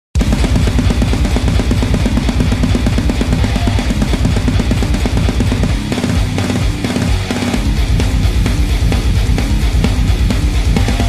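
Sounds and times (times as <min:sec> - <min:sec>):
drum kit with rapid kick drum: 0:00.2 - 0:11.0
heavy metal music: 0:00.2 - 0:11.0.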